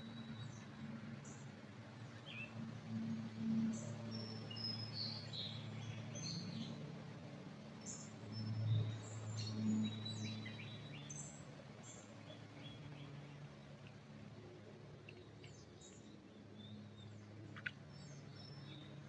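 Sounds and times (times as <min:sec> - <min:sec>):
songbirds chirping and twittering: 0:00.0 - 0:19.0.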